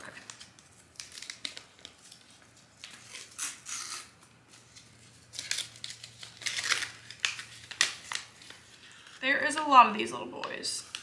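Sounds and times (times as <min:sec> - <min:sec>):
paper packet crinkling: 0:00.0 - 0:09.5.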